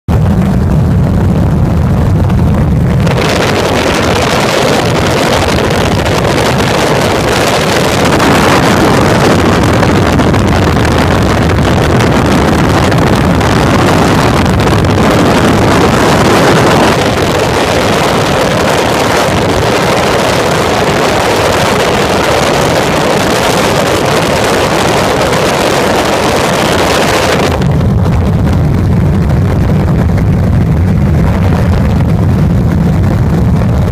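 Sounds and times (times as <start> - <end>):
loud rushing noise: 0.0 - 33.9
helicopter rotor drone: 0.1 - 33.9.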